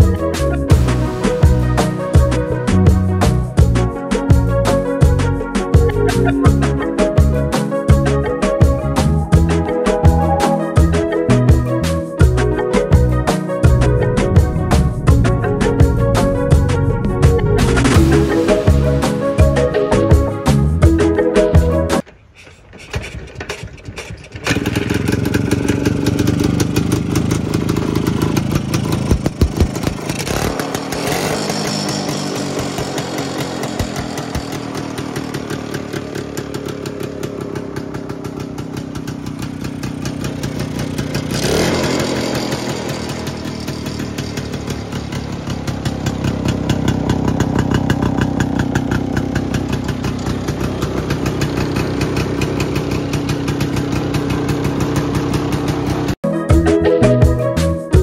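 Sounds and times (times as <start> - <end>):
motorcycle engine idling and revving: 0.0 - 56.2.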